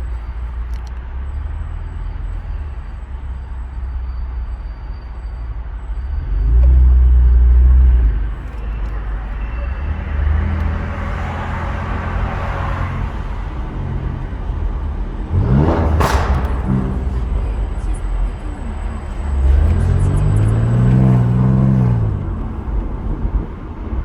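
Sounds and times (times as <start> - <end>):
deep car exhaust drone: 0.0 - 24.0.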